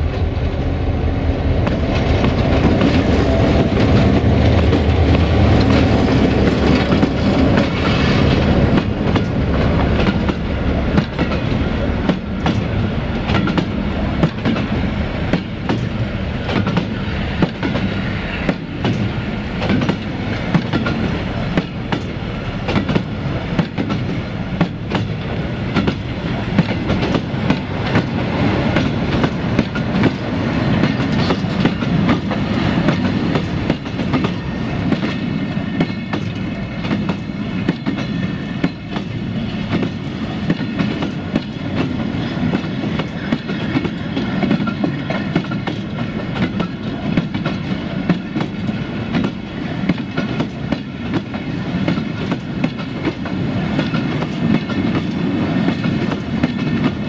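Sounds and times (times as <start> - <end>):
train wheels clattering over rail joints: 1.6 - 57.0.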